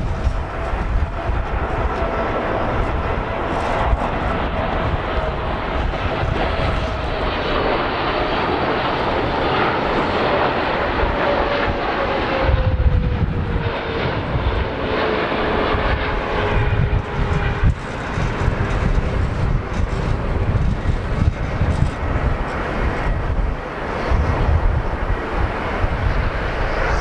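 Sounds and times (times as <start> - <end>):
gusty low rumble: 0.0 - 27.0
jet engine roar and whine: 0.0 - 27.0.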